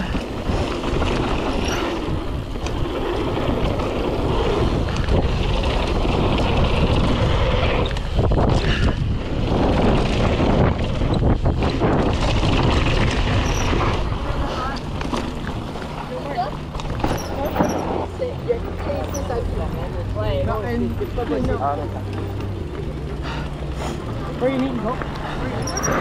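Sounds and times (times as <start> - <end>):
wind rushing over microphone: 0.0 - 21.2
bike rattling: 0.0 - 26.0
bike tyres rumbling on dirt: 0.0 - 26.0.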